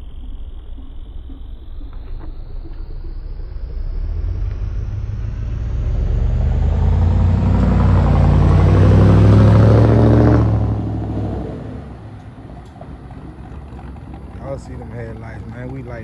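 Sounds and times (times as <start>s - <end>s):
truck vee eight exhaust driving past: 2.6s - 16.0s.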